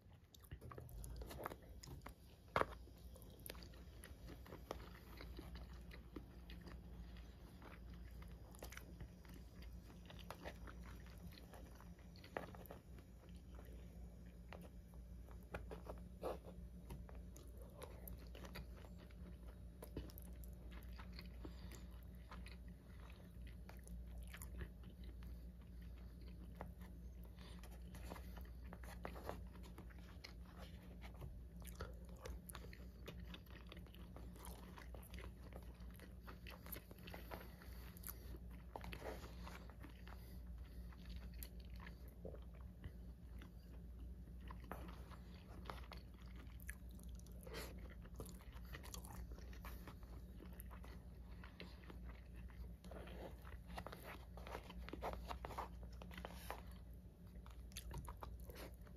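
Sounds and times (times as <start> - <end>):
chewing with mouth clicks: 0.0 - 58.9
low steady hum: 0.0 - 58.9.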